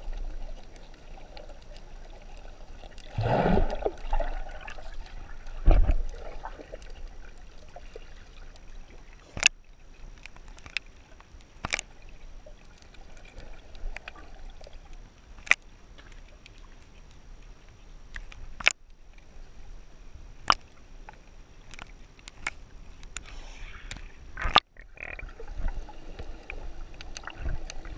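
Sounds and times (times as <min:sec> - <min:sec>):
muffled underwater water movement: 0:00.0 - 0:27.9.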